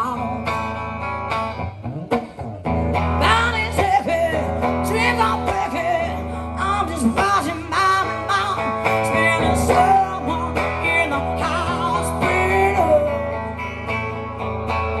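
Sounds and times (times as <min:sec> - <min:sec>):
woman singing: 0:00.0 - 0:00.8, 0:03.0 - 0:14.2
guitar chords: 0:00.0 - 0:15.0.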